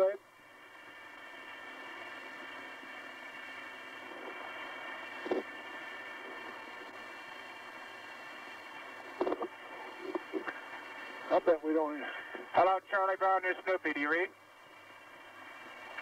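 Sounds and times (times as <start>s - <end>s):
faint steady tones: 0.0s - 16.0s
recording hiss: 0.0s - 16.0s.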